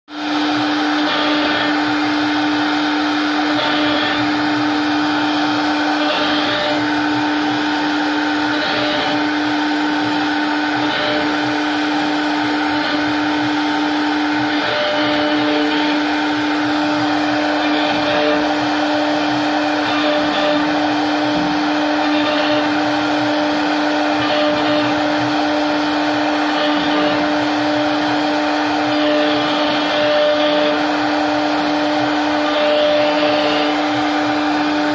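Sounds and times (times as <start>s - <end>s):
router cutting wood hiss: 0.1s - 34.9s
router motor whine: 0.1s - 34.9s.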